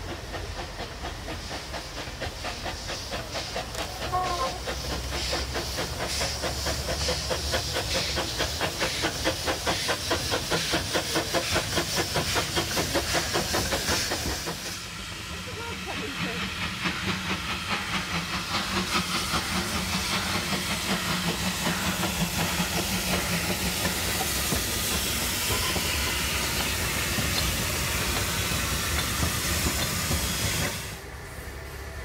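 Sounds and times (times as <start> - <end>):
steam hissing: 0.0 - 32.0
steam locomotive exhaust beats: 0.0 - 32.0.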